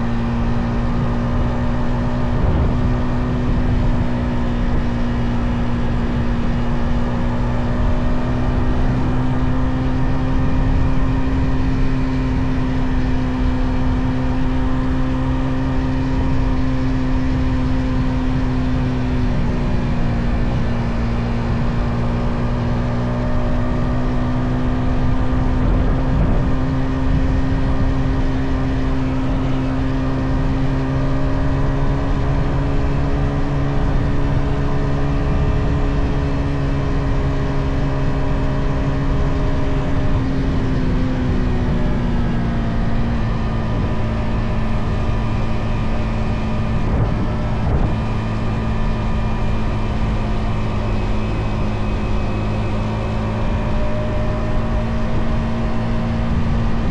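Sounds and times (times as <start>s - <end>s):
motorcycle engine cruising: 0.0s - 56.9s
road and wind noise: 0.0s - 56.9s.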